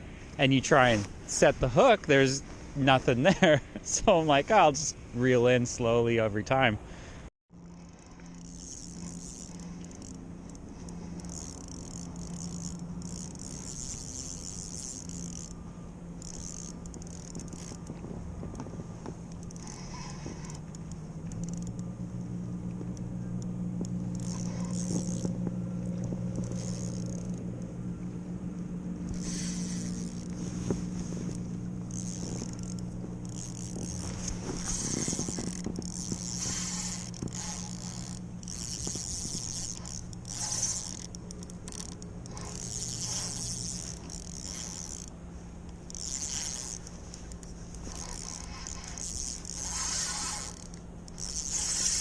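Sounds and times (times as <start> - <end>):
low engine hum: 0.0 - 52.0
fishing reel rasping: 7.6 - 52.0.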